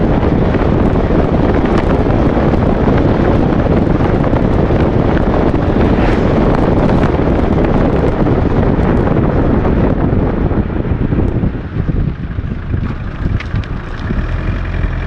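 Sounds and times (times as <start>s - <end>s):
tyre and road noise: 0.0s - 15.0s
wind buffeting a microphone: 0.0s - 15.0s.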